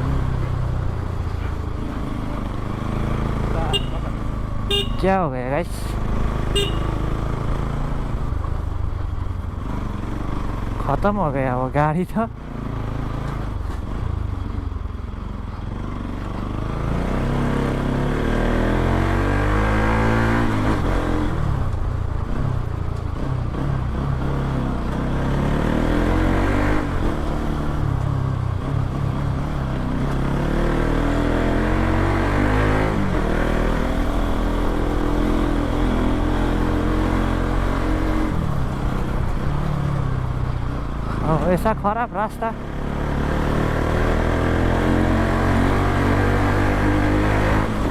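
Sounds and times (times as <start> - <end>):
motorcycle engine accelerating: 0.0 - 11.4, 12.4 - 47.9.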